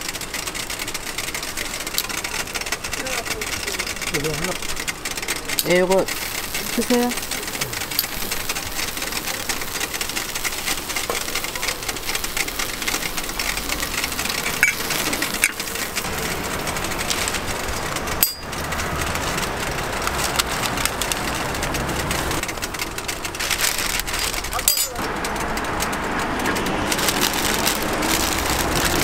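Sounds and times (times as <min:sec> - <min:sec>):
sandwiches sizzling on a griddle: 0:00.0 - 0:29.0
metal tongs clacking: 0:01.0 - 0:29.0.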